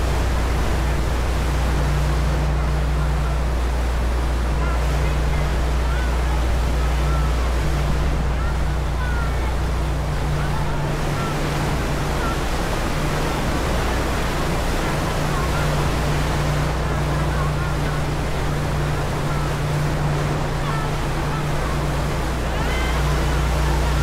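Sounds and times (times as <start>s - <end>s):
ferry engines humming: 0.0s - 24.0s
wake water rushing: 0.0s - 24.0s.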